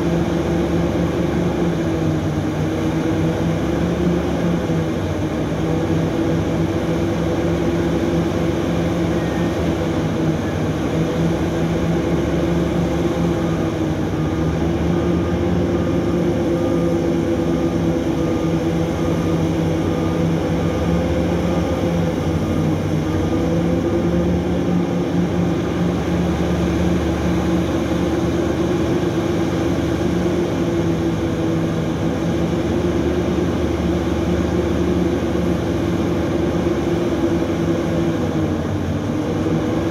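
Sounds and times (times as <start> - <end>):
heavy diesel engines droning: 0.0 - 39.9.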